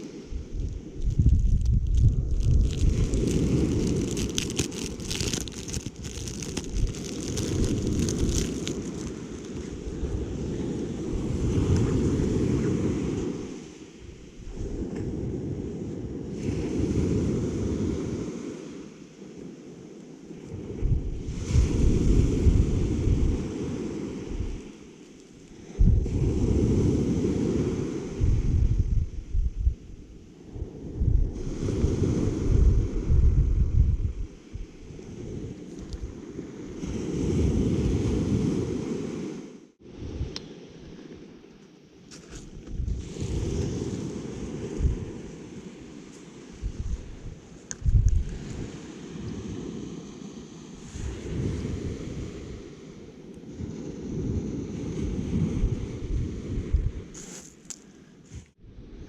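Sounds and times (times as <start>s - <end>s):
wind buffeting microphone: 0.0s - 18.6s, 20.2s - 24.8s, 25.6s - 40.4s, 42.4s - 50.0s, 50.8s - 57.2s.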